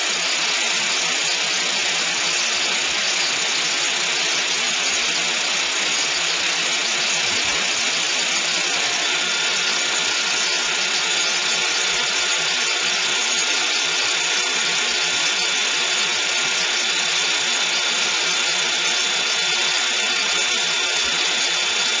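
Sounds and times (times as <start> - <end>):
faint steady whistle: 0.0 - 22.0.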